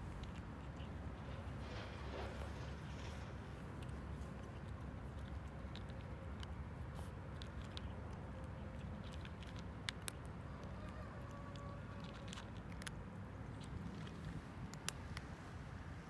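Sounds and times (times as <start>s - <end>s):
cat crunching dry kibble: 0.0s - 16.0s.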